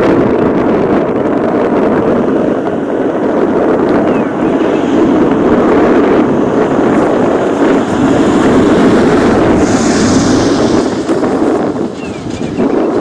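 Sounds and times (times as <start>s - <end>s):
wind buffeting microphone: 0.0s - 13.0s
steam locomotive exhaust: 2.1s - 13.0s.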